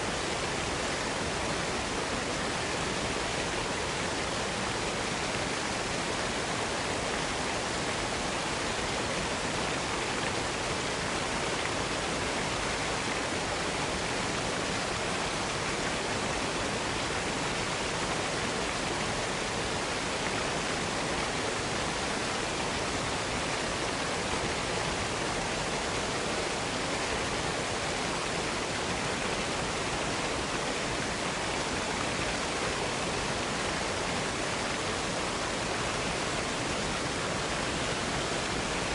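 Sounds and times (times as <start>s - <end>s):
waterfall hiss: 0.0s - 38.9s.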